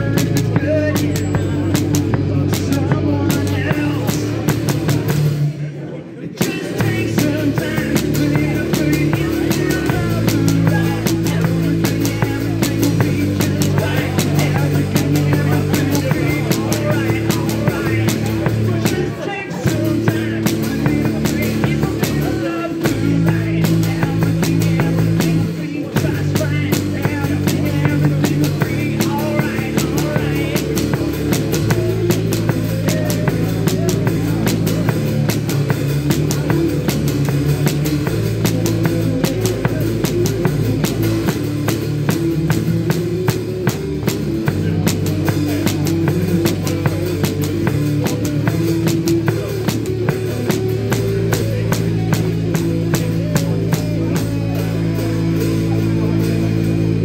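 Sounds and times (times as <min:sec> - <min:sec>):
drum kit beat: 0:00.0 - 0:57.0
low bass line: 0:00.0 - 0:57.0.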